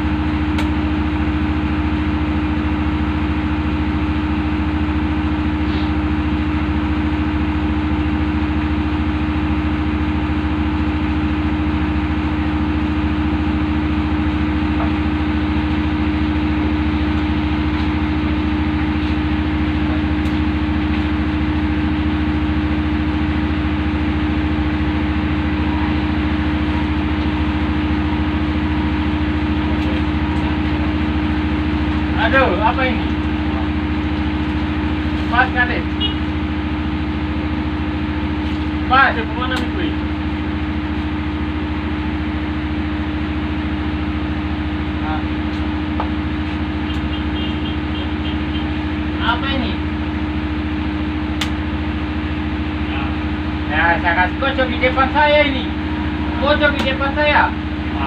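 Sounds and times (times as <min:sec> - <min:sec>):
ship engine droning: 0:00.0 - 0:58.0.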